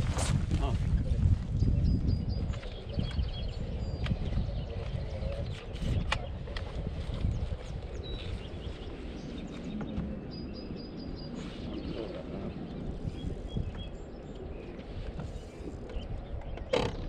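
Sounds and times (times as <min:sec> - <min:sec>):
low outdoor rumble: 0:00.0 - 0:17.0
birds chirping: 0:00.2 - 0:17.0.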